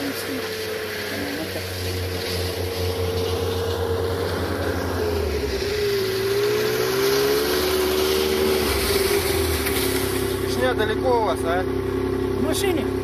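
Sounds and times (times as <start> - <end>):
engine droning hum: 0.0 - 13.0.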